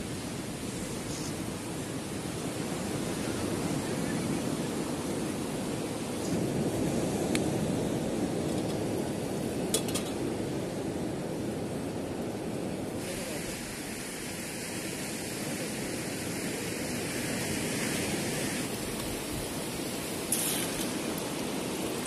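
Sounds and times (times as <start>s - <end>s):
surf: 0.0s - 22.0s
wind: 0.0s - 22.0s.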